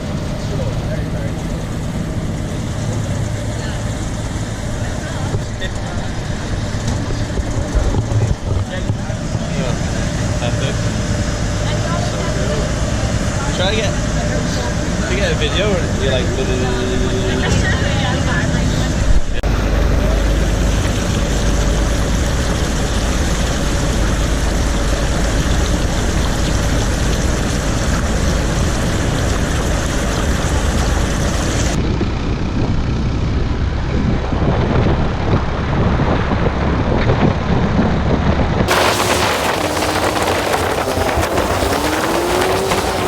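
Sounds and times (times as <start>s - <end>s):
motorbike engine and road noise: 0.0s - 43.0s.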